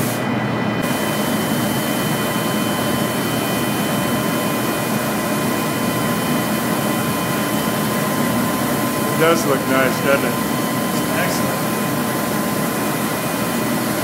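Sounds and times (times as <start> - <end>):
machine running with hiss and hum: 0.0 - 14.0
constant high whine: 0.2 - 14.0.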